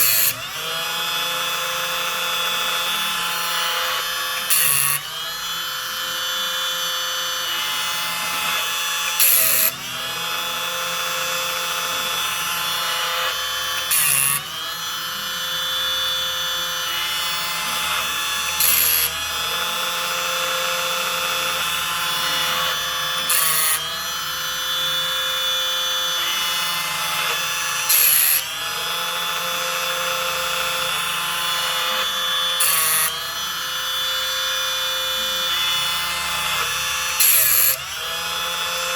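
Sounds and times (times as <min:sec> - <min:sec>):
grinding wheel grinding tooth: 0:00.0 - 0:38.9
sharpener motor whining: 0:00.0 - 0:38.9.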